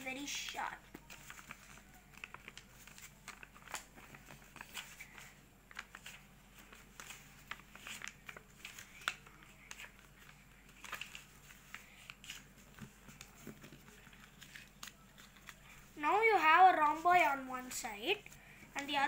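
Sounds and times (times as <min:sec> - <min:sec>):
paper rustling and crinkling: 0:00.0 - 0:19.0
sharp paper crackle: 0:00.0 - 0:19.0.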